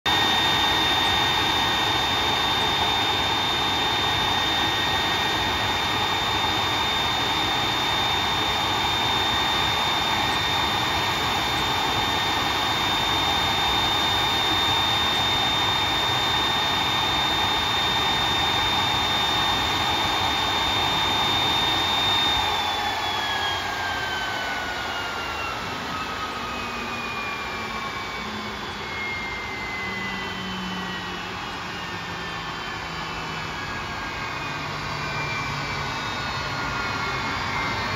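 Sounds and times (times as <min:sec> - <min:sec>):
jet engine idling and spooling down: 0:00.0 - 0:37.9.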